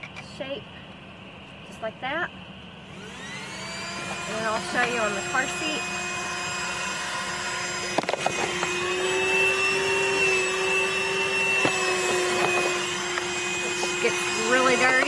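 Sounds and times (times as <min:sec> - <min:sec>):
handheld vacuum motor whine: 0:02.8 - 0:15.0.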